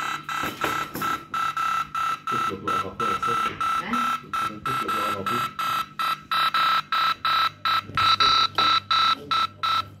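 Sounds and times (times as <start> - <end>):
electronic buzzing beeps: 0.0 - 10.0.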